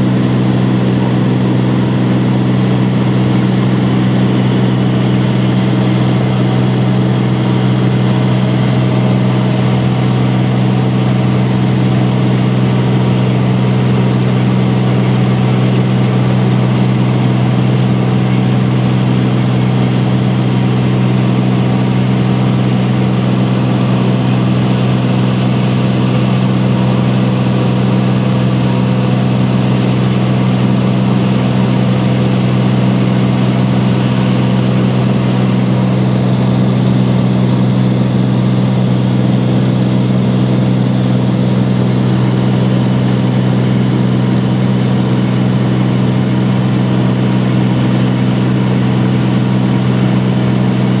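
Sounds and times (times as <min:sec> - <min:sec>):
aircraft engine droning in cabin: 0:00.0 - 0:51.0.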